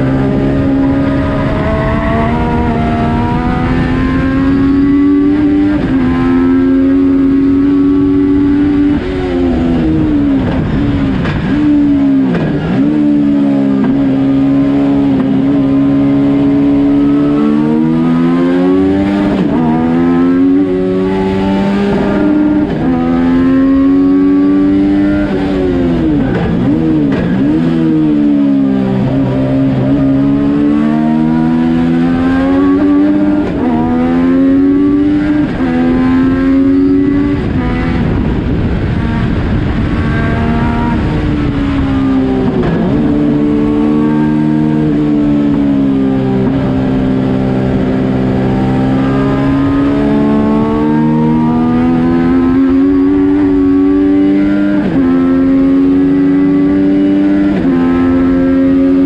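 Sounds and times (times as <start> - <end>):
race car engine revving hard: 0.0 - 59.0.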